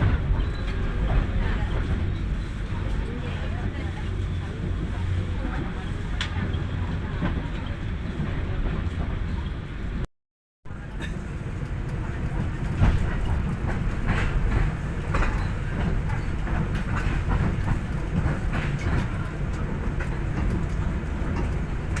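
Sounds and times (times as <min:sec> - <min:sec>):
train rumbling on rails: 0:00.0 - 0:10.1, 0:10.7 - 0:22.0.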